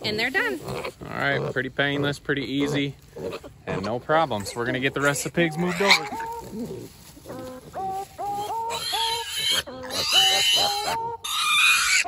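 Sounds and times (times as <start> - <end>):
piglets squealing: 0.2 - 12.0.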